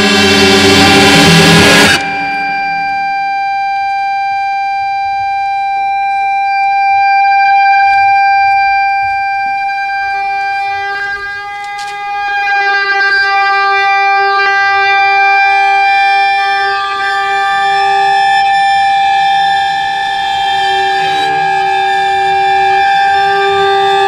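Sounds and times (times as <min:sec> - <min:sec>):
electric guitar long tones: 0:00.0 - 0:24.0.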